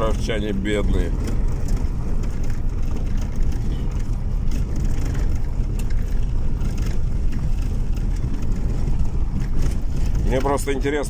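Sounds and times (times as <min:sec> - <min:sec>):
car driving on gravel road: 0:00.0 - 0:11.0.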